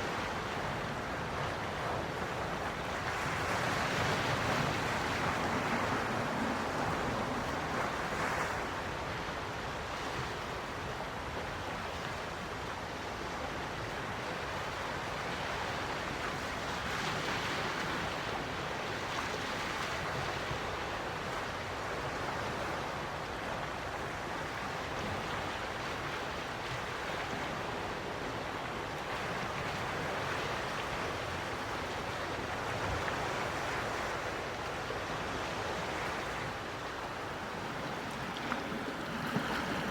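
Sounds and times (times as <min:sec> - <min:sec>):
gentle ocean waves on shore: 0:00.0 - 0:39.9.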